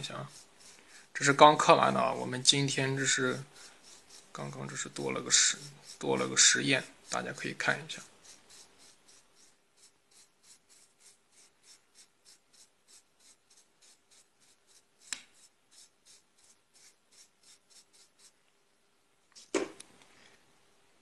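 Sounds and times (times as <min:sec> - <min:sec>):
brush scrubbing wood: 0:00.0 - 0:18.4.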